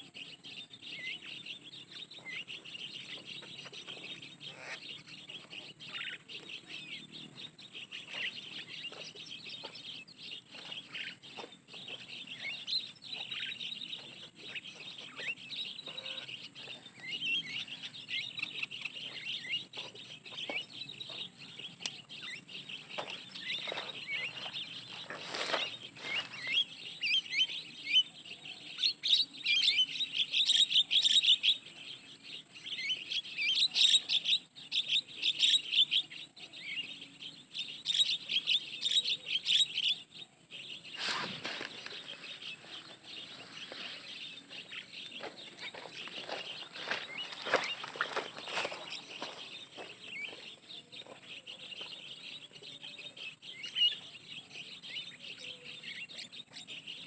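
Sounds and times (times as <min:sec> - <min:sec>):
starlings chirping: 0:00.0 - 0:57.0.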